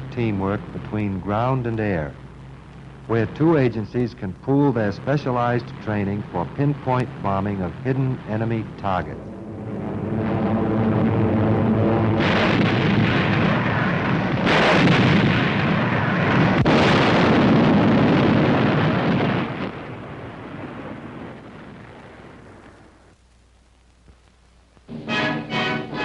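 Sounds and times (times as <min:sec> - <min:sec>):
bombs exploding: 0:00.0 - 0:23.2.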